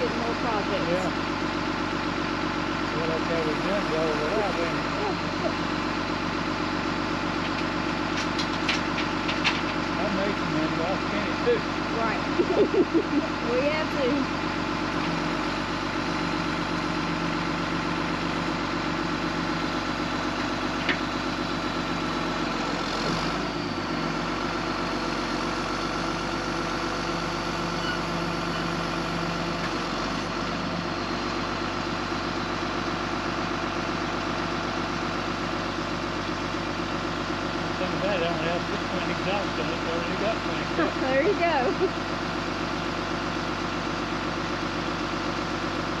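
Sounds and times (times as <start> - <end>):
truck engine idling: 0.0 - 46.0.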